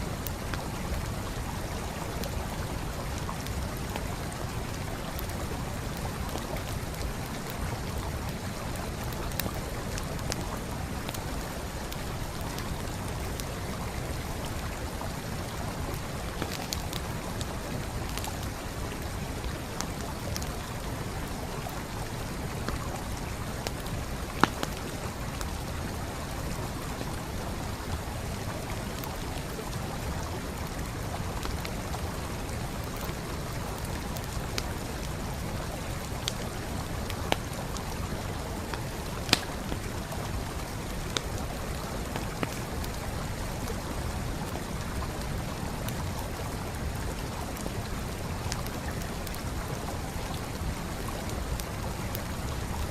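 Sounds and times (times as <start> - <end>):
stream rushing: 0.0 - 52.9
campfire crackling and popping: 0.1 - 52.9.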